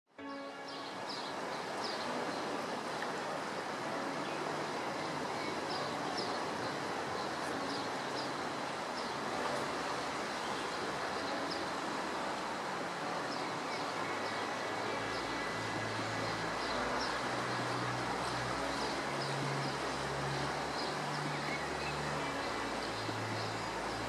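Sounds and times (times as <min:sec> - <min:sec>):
river rushing: 0:00.2 - 0:24.0.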